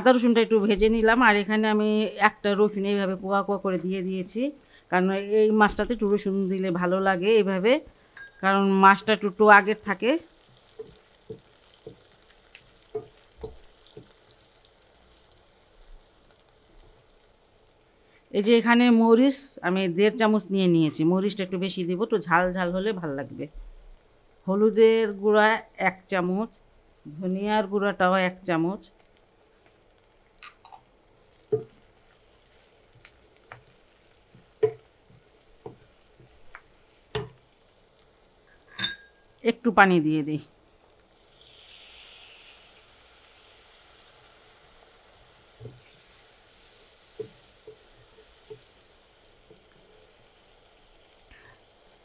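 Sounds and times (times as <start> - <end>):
onions sizzling in oil: 0.0 - 23.2, 26.2 - 52.0.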